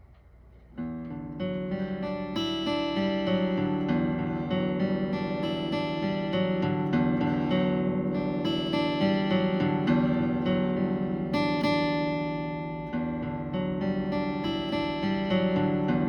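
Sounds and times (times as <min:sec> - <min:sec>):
guitar plucked notes and chords: 0:00.0 - 0:16.0.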